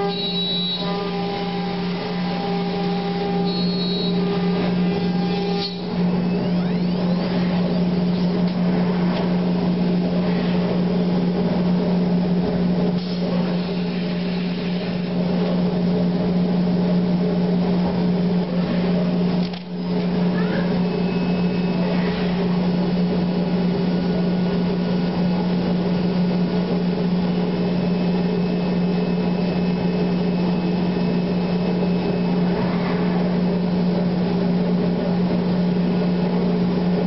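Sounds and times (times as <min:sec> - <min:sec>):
cnc router machinery humming: 0:00.0 - 0:37.0.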